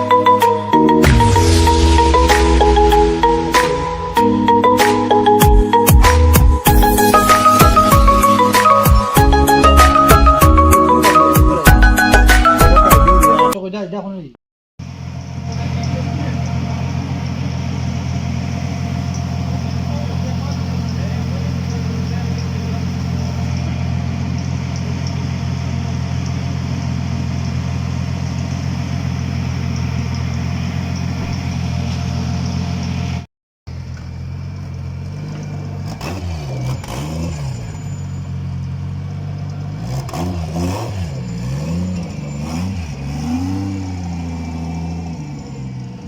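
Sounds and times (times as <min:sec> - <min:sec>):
car engine idling and revving: 0:00.0 - 0:12.8, 0:14.8 - 0:46.0.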